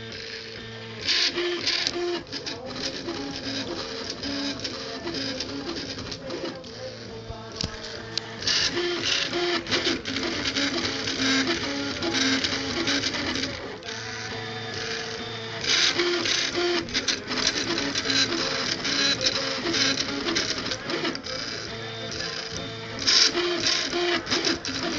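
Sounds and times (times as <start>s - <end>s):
printer humming: 0.0s - 24.9s
stepper motors whining: 0.0s - 24.9s.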